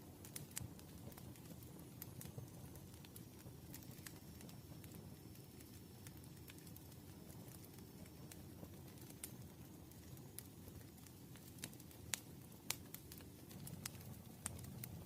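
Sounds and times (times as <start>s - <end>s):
campfire crackling: 0.0s - 15.0s
low rumble of burning: 0.0s - 15.0s
wood popping in fire: 0.0s - 15.0s.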